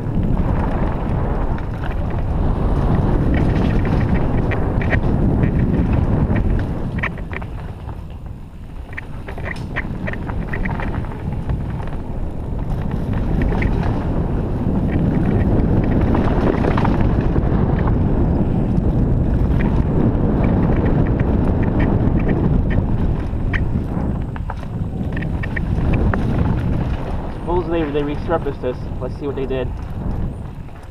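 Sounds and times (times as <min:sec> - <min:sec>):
bike rattles and clicks: 0:00.0 - 0:30.9
tyres rolling over dirt and stones: 0:00.0 - 0:30.9
wind rushing over microphone: 0:00.0 - 0:30.9.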